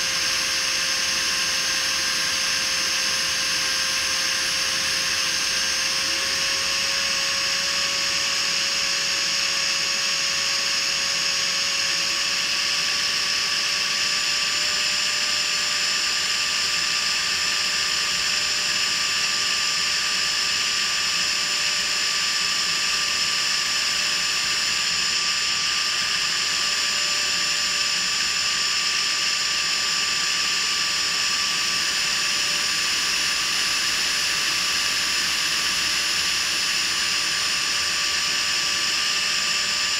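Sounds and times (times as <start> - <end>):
electric ducted fan whine: 0.0 - 39.9.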